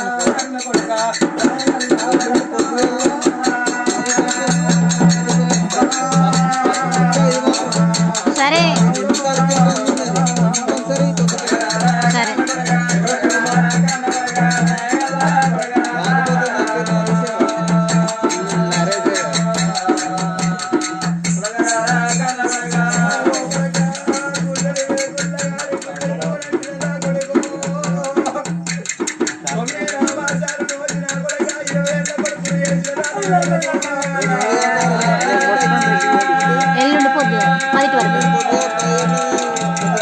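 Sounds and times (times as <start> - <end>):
high jingling rattle: 0.0 - 40.0
low drum beat: 0.0 - 40.0.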